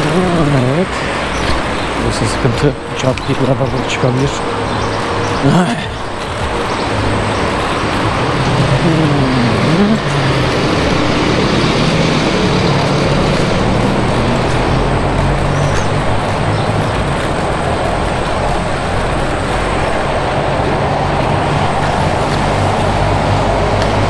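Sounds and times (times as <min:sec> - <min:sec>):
traffic noise: 0:00.0 - 0:24.0
vehicle engine hum: 0:00.0 - 0:24.0
wind noise: 0:00.0 - 0:24.0.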